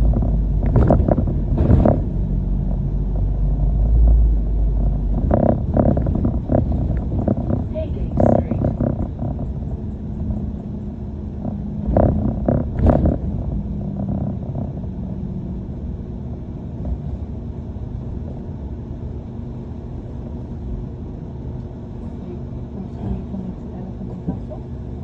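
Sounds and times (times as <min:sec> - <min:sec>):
bus engine rumbling: 0:00.0 - 0:25.0.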